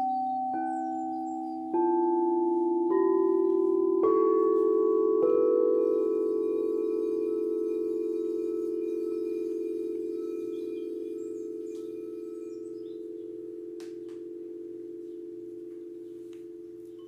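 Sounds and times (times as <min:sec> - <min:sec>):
singing bowls ringing: 0:00.0 - 0:17.0.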